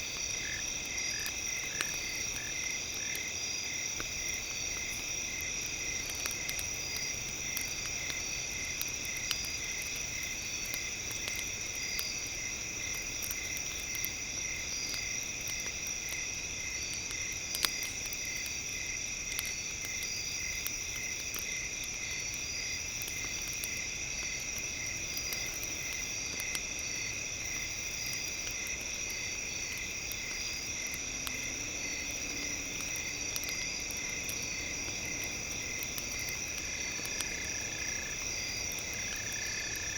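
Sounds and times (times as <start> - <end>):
campfire crackling and popping: 0.0 - 39.9
insects trilling: 0.0 - 39.9.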